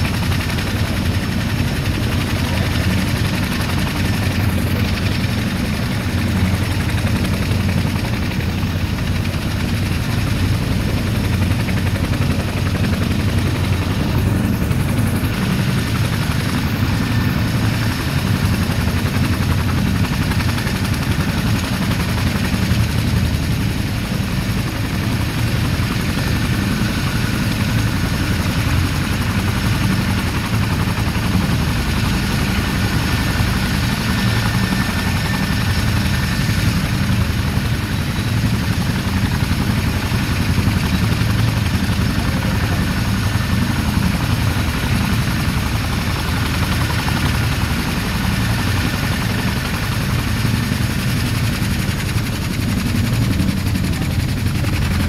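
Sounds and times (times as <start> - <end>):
helicopter engines rushing: 0.0 - 55.0
helicopter rotors beating: 0.0 - 55.0.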